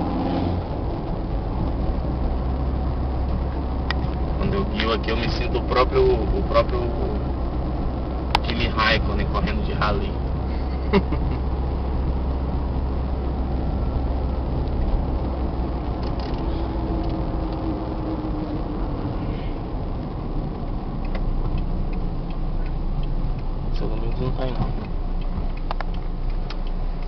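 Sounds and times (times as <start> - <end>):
car engine and tyres rumbling: 0.0 - 27.0.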